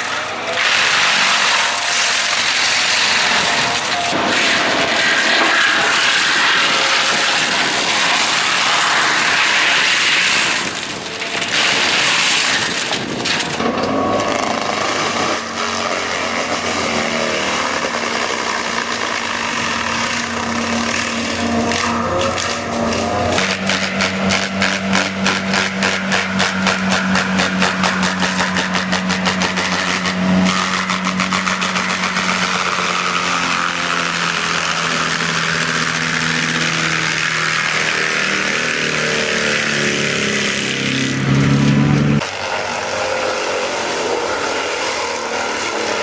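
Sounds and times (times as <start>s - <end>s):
machine humming: 0.0s - 46.0s
woodworking machine cutting: 0.0s - 46.0s.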